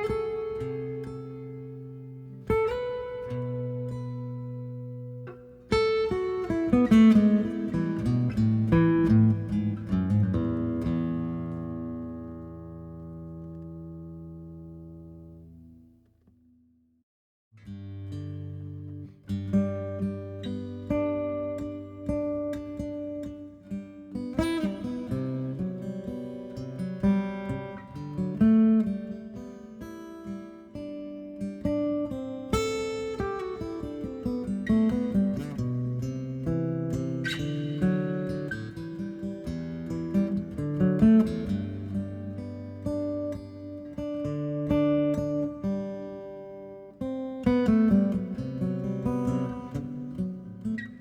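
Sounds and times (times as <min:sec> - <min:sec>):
acoustic guitar music: 0:00.0 - 0:16.3, 0:17.6 - 0:51.0.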